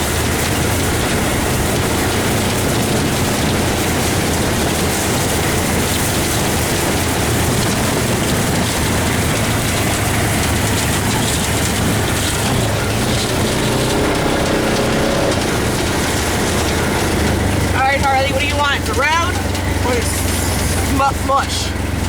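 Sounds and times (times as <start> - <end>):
constant hiss: 0.0 - 22.0
vehicle engine hum: 0.0 - 22.0.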